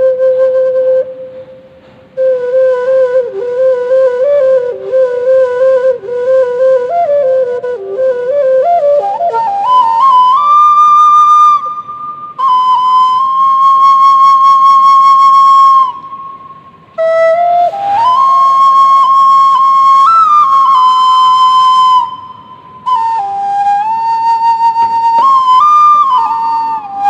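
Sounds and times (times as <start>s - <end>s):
bamboo flute melody: 0.0s - 27.0s.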